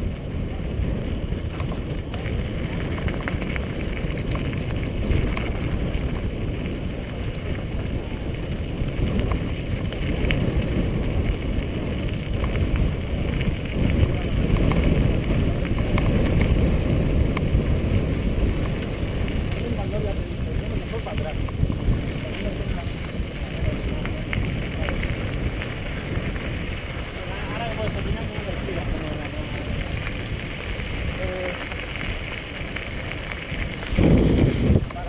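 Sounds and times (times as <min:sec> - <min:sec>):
bike clicks and rattles: 0:00.0 - 0:35.0
tyres rumbling on dirt and gravel: 0:00.0 - 0:35.0
wind buffeting microphone: 0:00.0 - 0:35.0.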